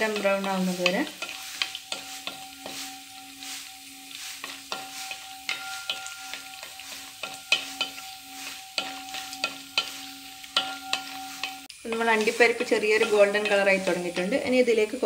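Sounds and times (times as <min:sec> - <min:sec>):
nuts sizzling in ghee: 0:00.0 - 0:15.0
spoon scraping metal pan: 0:00.0 - 0:15.0.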